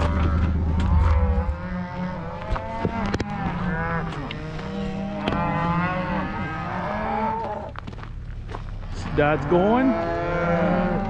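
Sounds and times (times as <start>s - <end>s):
cattle mooing: 0.0s - 7.8s, 8.9s - 11.0s
low engine hum: 0.0s - 11.0s.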